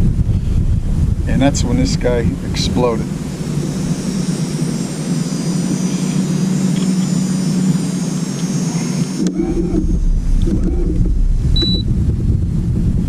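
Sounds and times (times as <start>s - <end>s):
engine drone: 0.0s - 13.0s
faint high whine: 0.0s - 13.0s.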